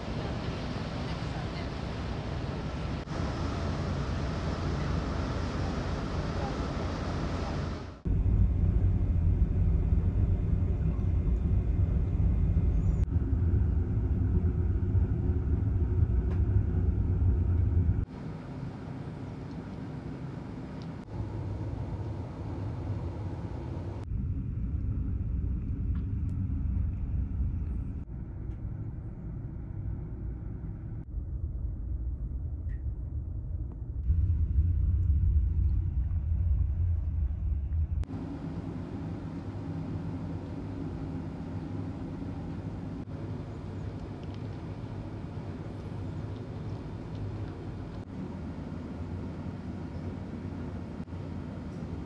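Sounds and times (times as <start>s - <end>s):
ship engines rumbling: 0.0s - 31.1s, 34.1s - 52.0s.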